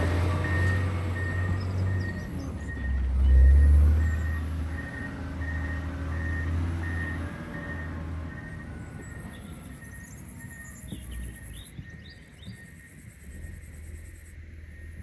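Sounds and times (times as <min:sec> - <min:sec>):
diesel engine running: 0:00.0 - 0:15.0
back-up alarm beeping: 0:00.3 - 0:15.0.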